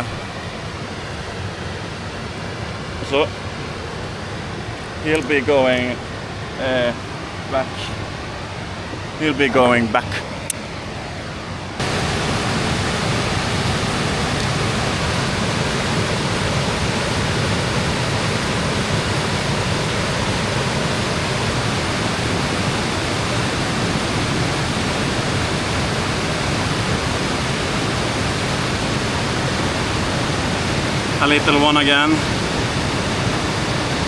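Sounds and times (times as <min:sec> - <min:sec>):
mountain stream rushing: 0:00.0 - 0:34.0.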